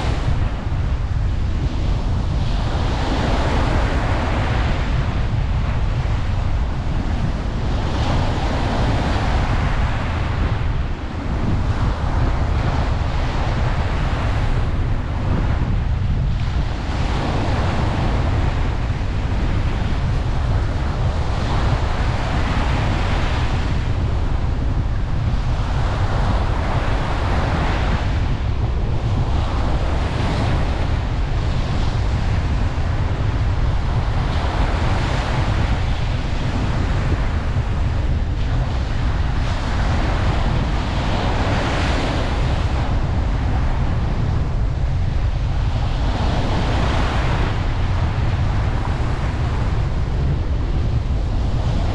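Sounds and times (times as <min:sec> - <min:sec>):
ocean surf washing on beach: 0:00.0 - 0:51.9.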